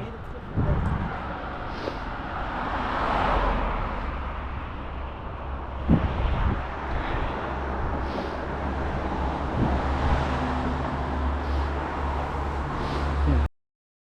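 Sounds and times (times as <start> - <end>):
wind on microphone: 0.0 - 12.8
road traffic rumble: 0.0 - 13.5.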